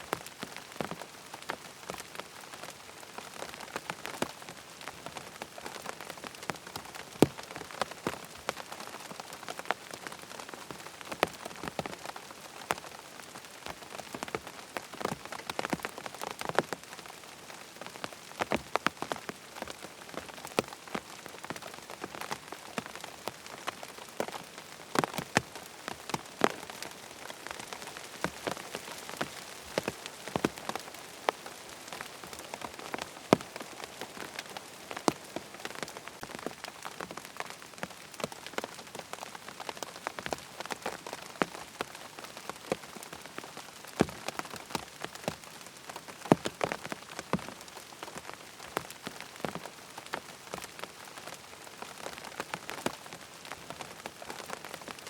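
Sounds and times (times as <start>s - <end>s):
rain falling on a tent: 0.0s - 55.0s.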